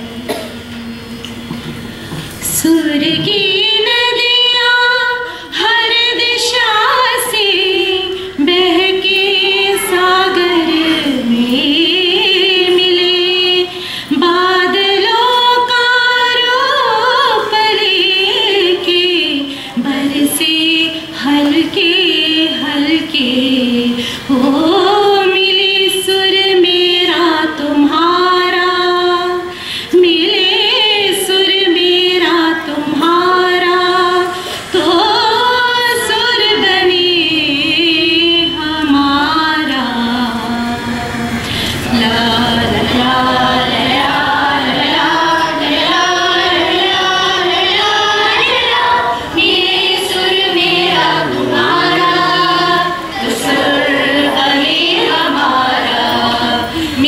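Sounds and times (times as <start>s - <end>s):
group singing together: 2.2s - 57.0s
woman singing into a microphone: 2.4s - 57.0s.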